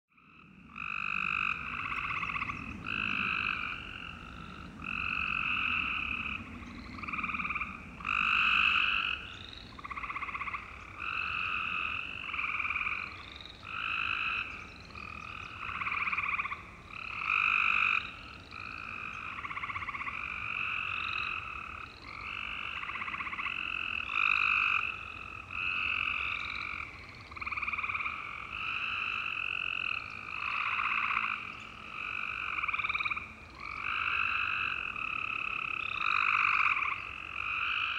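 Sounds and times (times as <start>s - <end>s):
frogs calling in chorus: 0.2s - 37.9s.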